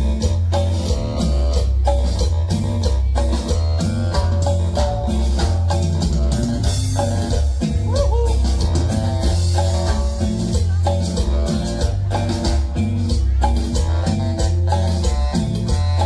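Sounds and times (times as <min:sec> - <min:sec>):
congas: 0:00.0 - 0:16.0
dance band playing: 0:00.0 - 0:16.0.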